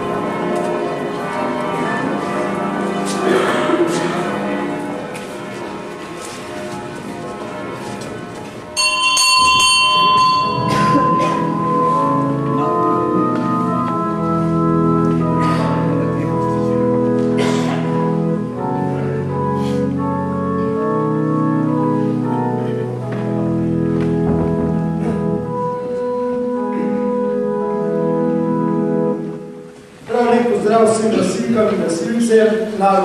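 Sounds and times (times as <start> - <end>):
church bells ringing: 0.0 - 33.0
church organ playing chords: 0.0 - 33.0.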